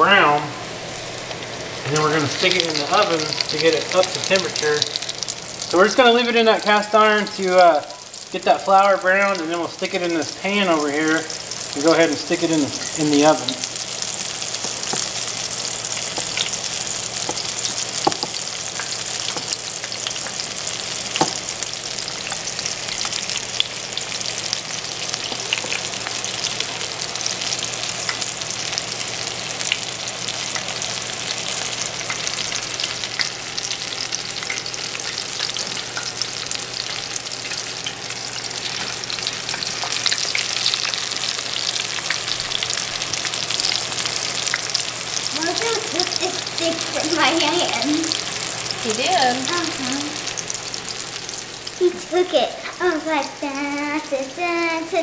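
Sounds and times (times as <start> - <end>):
frying sizzle in grease: 0.0 - 55.0
grease popping: 1.0 - 51.0.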